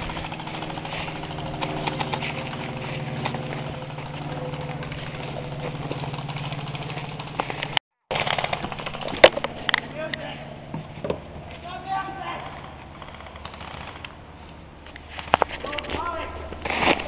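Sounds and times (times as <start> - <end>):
sharp cracks: 0.0 - 10.4, 11.5 - 17.0.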